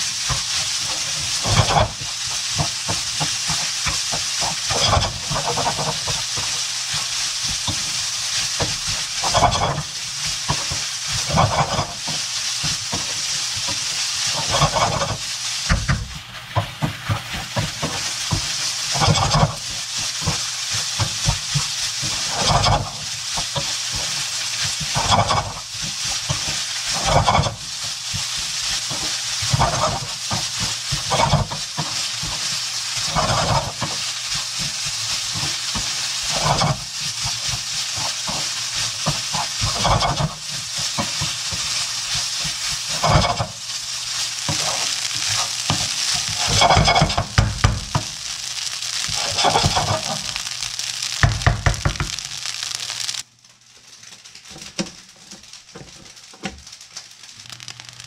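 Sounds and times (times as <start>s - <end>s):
spatula scraping a wok: 0.0s - 53.2s, 55.1s - 58.0s
rice sizzling in a wok: 0.0s - 58.0s.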